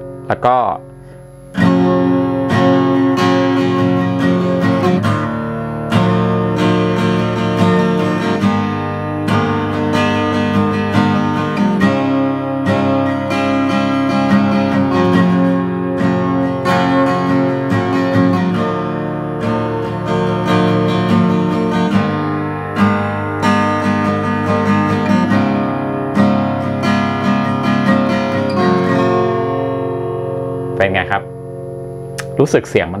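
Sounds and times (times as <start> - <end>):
acoustic guitar chords: 0.0 - 33.0.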